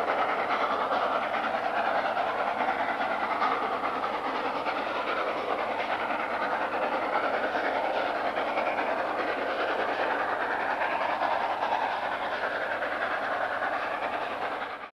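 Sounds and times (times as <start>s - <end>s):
steam locomotive running: 0.0s - 14.9s.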